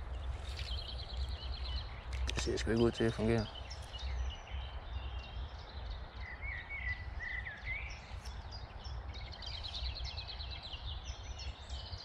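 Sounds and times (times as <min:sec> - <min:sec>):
low rumble of wind: 0:00.0 - 0:12.0
songbirds singing: 0:00.0 - 0:12.0.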